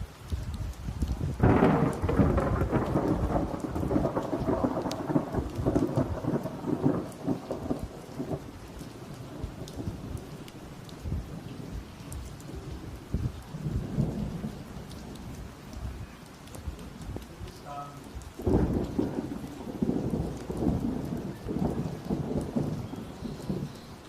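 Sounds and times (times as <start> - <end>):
rain falling: 0.0 - 24.0
thunder rumbling: 0.0 - 24.0.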